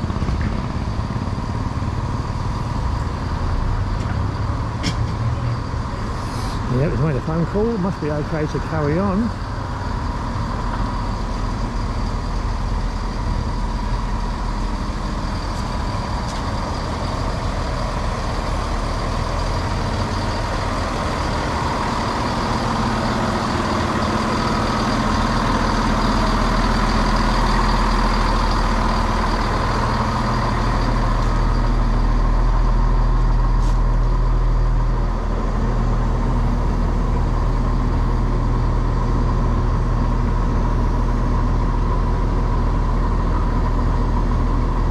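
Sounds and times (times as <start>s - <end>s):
diesel train engine running: 0.0s - 44.9s
steady whine: 0.0s - 44.9s.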